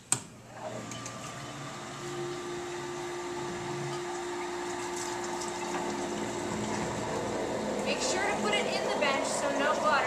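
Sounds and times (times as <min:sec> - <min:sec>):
water pump humming: 0:00.2 - 0:10.0.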